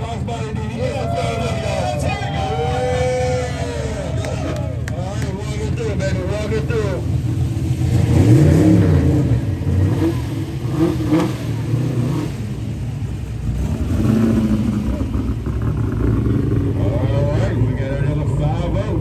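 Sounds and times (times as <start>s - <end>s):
car engine with loud exhaust: 0.0s - 19.0s.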